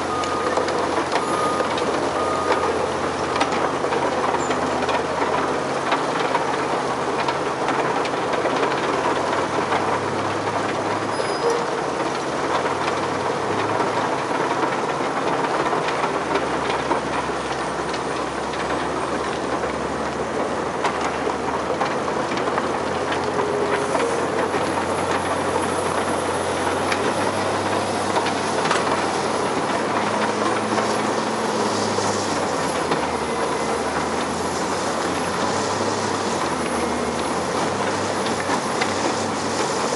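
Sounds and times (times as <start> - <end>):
diesel engine hum: 0.0 - 39.9
wheel loader diesel engine: 0.0 - 39.9.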